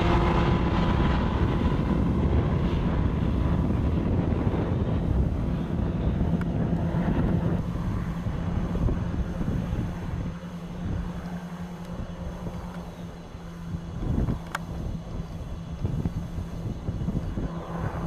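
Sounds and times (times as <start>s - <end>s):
helicopter engine and rotor drone: 0.0s - 18.0s
wind rumbling on microphone: 0.0s - 18.0s.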